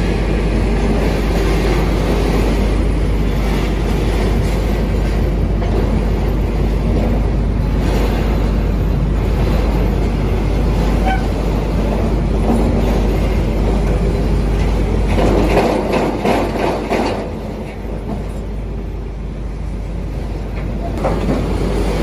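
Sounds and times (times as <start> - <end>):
machinery clattering: 0.6 - 18.6.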